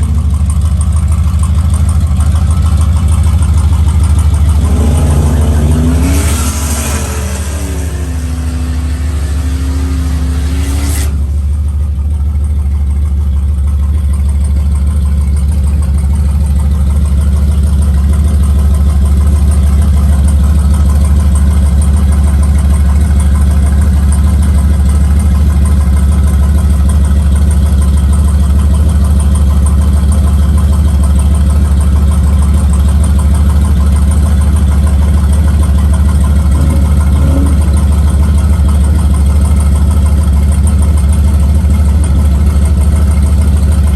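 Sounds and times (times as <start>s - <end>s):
large engine idling: 0.0s - 43.9s.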